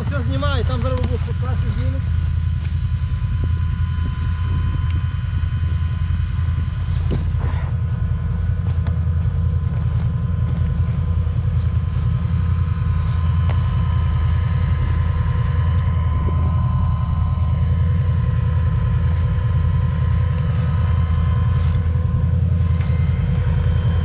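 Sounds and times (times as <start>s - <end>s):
vehicle engine running steadily: 0.0s - 24.0s.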